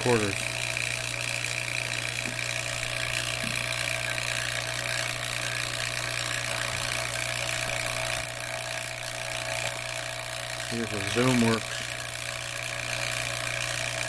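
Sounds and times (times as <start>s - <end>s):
vacuum pump running: 0.0s - 14.0s.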